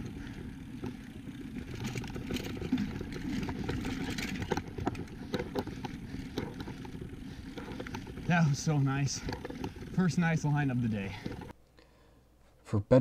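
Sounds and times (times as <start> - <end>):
bike clicks and rattles: 0.0 - 11.6.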